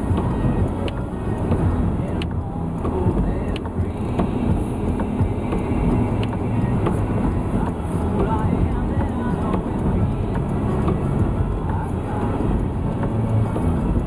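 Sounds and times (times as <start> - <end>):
faint ticks: 0.0 - 14.0
tyres rumbling on slushy road: 0.0 - 14.0.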